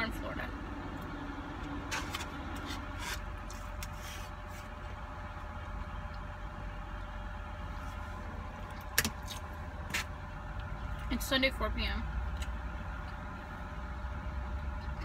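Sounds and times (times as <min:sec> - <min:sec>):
low hum inside a car: 0:00.0 - 0:15.0.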